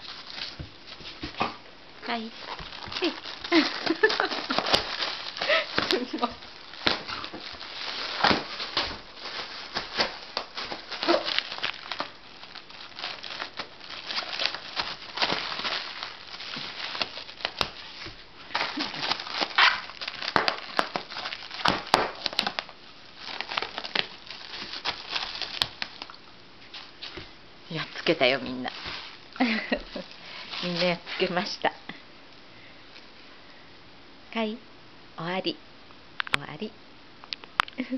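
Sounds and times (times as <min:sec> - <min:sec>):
plastic packing bags crinkling: 0:00.0 - 0:31.8.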